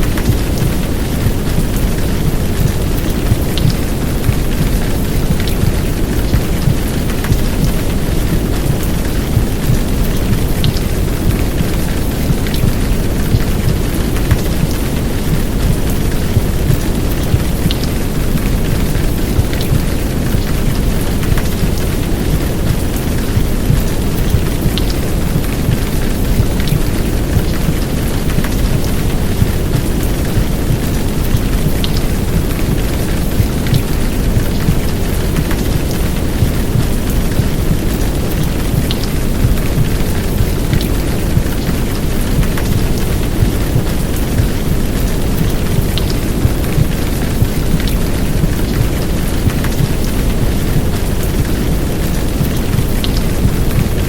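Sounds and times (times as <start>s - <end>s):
heavy rain hissing: 0.0s - 54.0s
muffled heartbeat: 0.0s - 54.0s
raindrops ticking: 0.0s - 54.0s.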